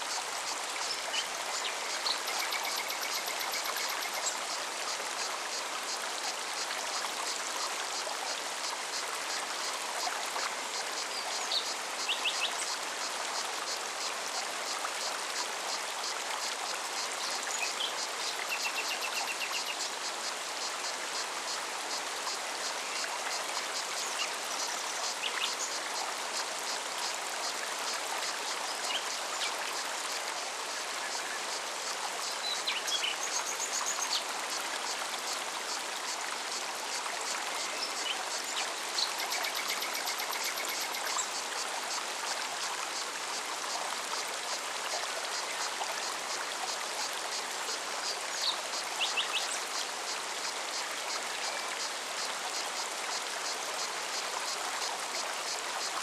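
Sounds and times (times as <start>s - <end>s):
stream flowing: 0.0s - 56.0s.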